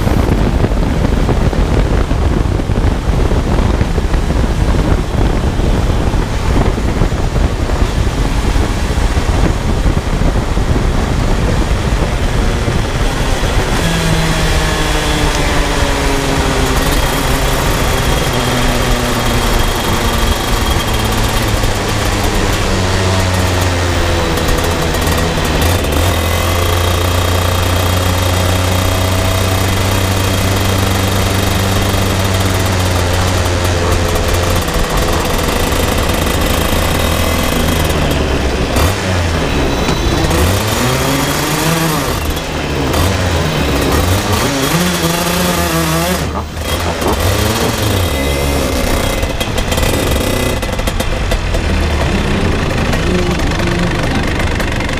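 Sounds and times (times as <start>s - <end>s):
kart engine running: 0.0s - 54.9s.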